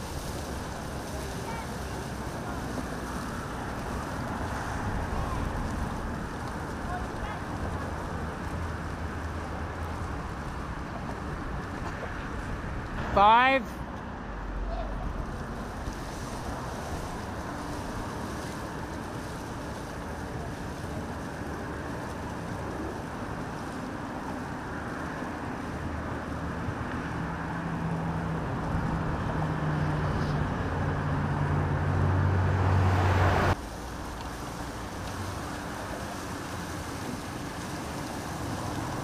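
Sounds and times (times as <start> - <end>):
traffic rumble: 0.0 - 39.0
vehicle engine hum: 0.0 - 39.0.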